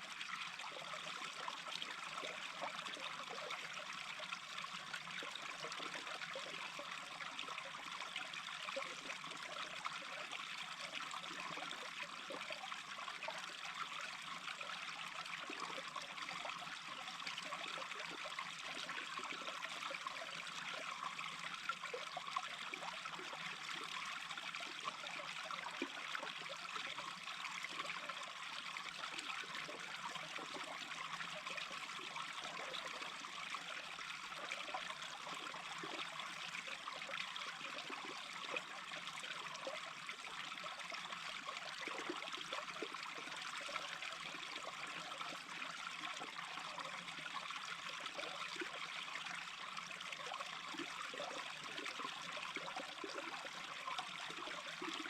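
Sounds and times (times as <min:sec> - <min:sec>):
brook babbling: 0:00.0 - 0:55.0.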